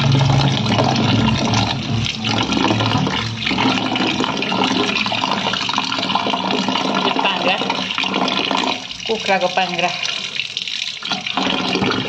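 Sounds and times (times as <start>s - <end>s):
tap water running into bowl: 0.0s - 12.0s
water splashing over meat: 0.0s - 12.0s.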